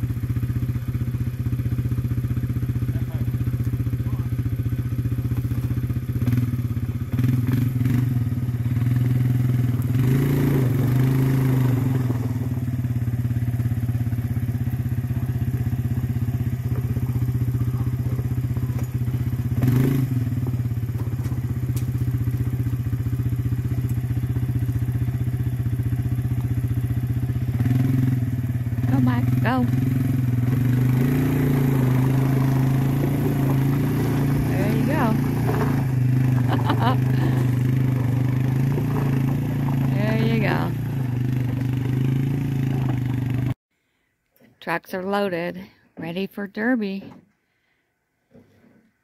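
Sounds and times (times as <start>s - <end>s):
atv engine idling: 0.0s - 43.6s.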